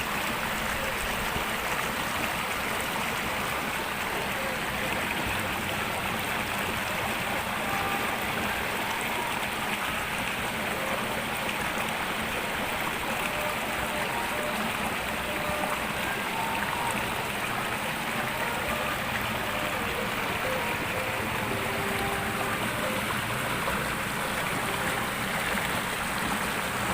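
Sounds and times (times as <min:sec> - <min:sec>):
river flowing over stones: 0:00.0 - 0:26.9.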